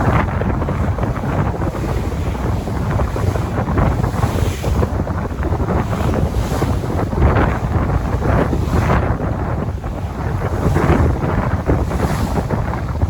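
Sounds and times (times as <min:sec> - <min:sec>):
sea waves washing: 0:00.0 - 0:13.0
wind buffeting microphone: 0:00.0 - 0:13.0.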